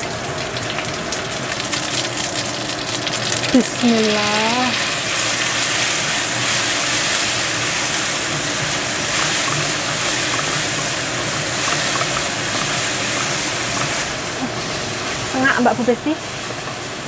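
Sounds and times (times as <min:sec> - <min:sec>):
stir-frying sizzle with crackles: 0:00.0 - 0:17.0.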